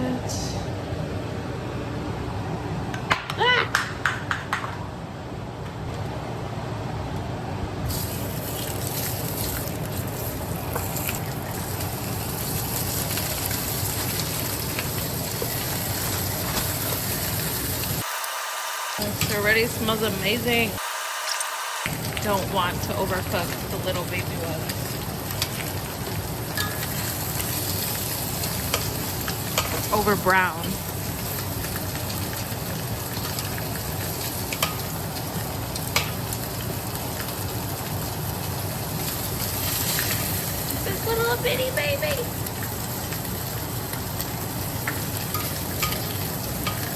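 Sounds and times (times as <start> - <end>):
range hood fan hum: 0.0 - 46.9
meat sizzling in oil: 7.9 - 46.9.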